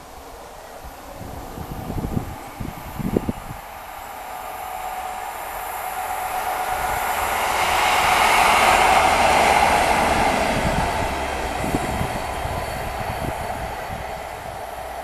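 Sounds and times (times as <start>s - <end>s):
diesel locomotives passing: 0.0s - 15.0s.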